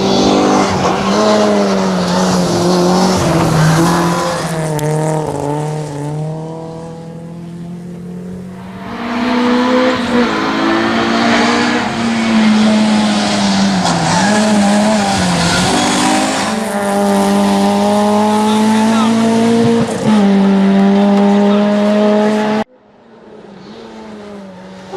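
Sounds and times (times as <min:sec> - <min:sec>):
rally car engine: 0:00.0 - 0:24.9.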